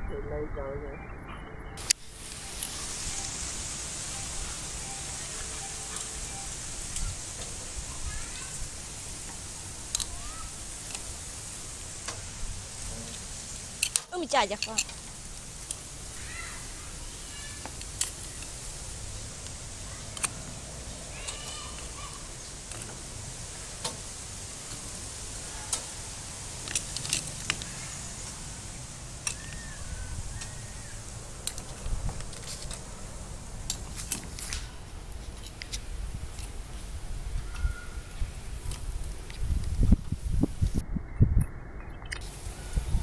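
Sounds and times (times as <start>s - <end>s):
steady outdoor hiss: 0.0s - 43.0s.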